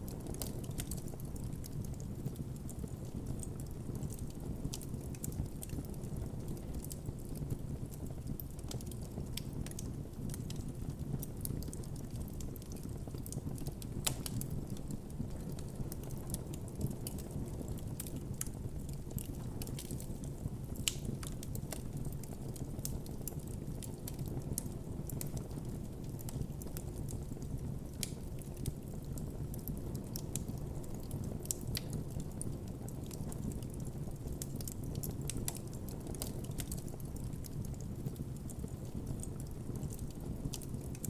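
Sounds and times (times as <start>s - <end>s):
campfire rumbling: 0.0s - 41.0s
fire crackling and popping: 0.0s - 41.0s.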